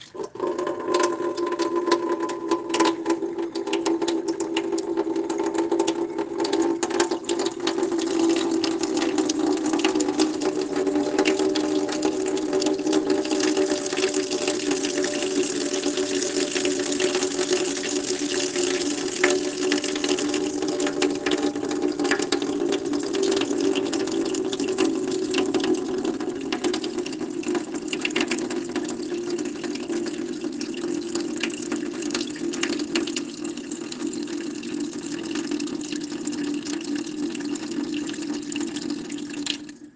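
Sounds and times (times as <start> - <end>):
tap water splashing into basin: 0.0 - 39.9.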